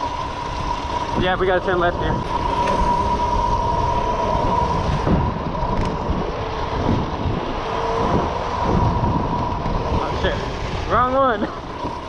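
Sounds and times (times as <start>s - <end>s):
mini bike engine running: 0.0s - 12.0s
steady whine: 0.0s - 12.0s
wind buffeting microphone: 0.0s - 12.0s.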